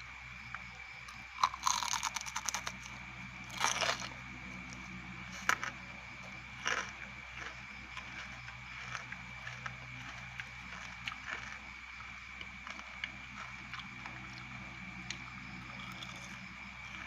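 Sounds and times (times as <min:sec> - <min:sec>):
crunching and chewing: 0:00.4 - 0:17.0.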